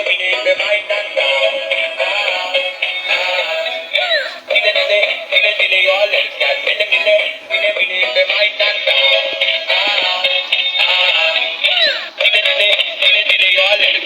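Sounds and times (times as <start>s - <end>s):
electronic song on small speaker: 0.0s - 14.0s
high-pitched synthetic singing: 0.0s - 14.0s.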